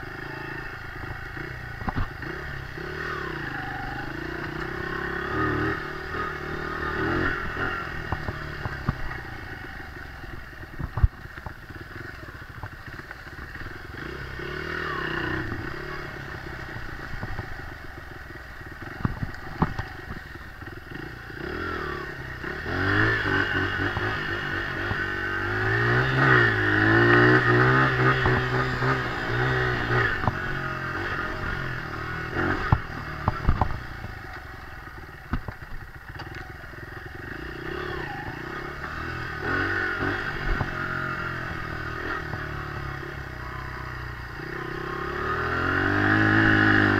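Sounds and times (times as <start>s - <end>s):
dirt bike engine revving: 0.0s - 11.1s, 11.9s - 35.3s, 36.5s - 46.9s.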